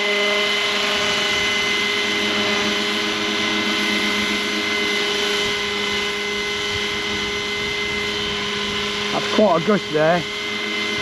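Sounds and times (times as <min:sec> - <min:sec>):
rc helicopter whine: 0:00.0 - 0:11.0
rotor noise: 0:00.0 - 0:11.0.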